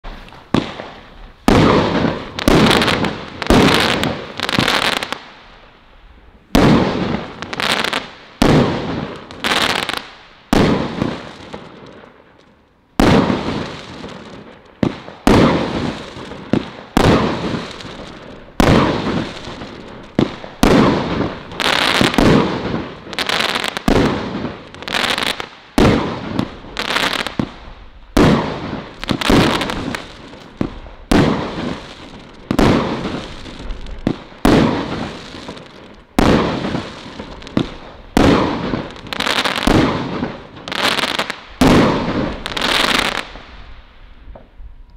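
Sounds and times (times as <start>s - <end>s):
firework shots with crackles: 0.0s - 5.6s, 6.5s - 12.2s, 13.0s - 44.6s.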